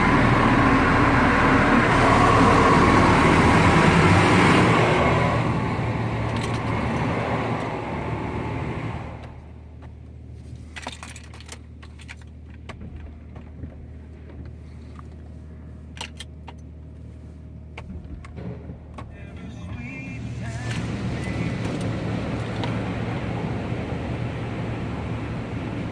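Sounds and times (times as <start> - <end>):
car engine idling: 0.0 - 10.8, 11.6 - 25.9.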